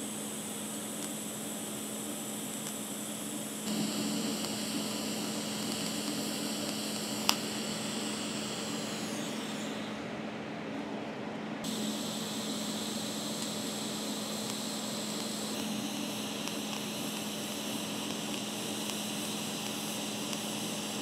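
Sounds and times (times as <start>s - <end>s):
welding arc hiss: 0.0s - 10.2s, 11.6s - 21.0s
steady hum: 0.0s - 21.0s.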